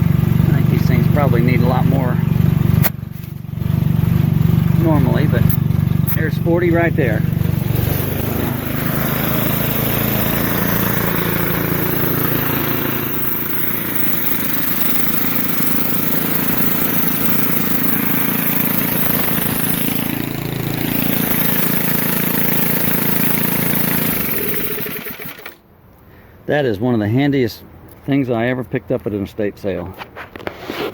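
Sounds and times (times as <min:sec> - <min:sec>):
air compressor running: 0:00.0 - 0:25.6.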